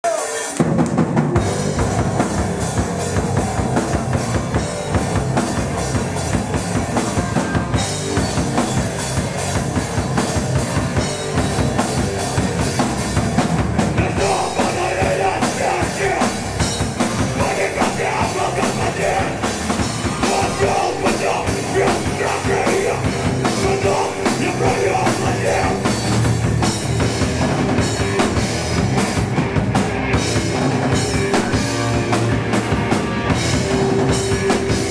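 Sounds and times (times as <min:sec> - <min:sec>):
pounding drum kit: 0:00.0 - 0:34.9
electric guitar: 0:00.1 - 0:34.9
bass guitar: 0:00.6 - 0:34.9.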